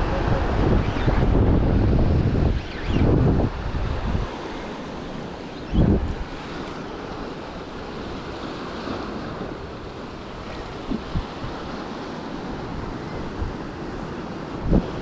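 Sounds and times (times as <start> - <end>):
wind buffeting microphone: 0.0 - 5.1, 5.7 - 15.0
surf washing against rocks: 0.0 - 15.0.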